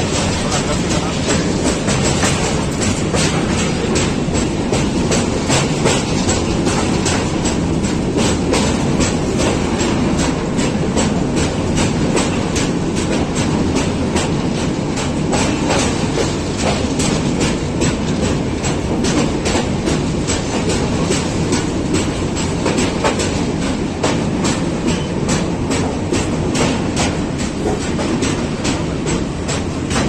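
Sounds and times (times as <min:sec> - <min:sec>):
train running rumble: 0:00.0 - 0:30.0
train wheels clattering: 0:00.0 - 0:30.0.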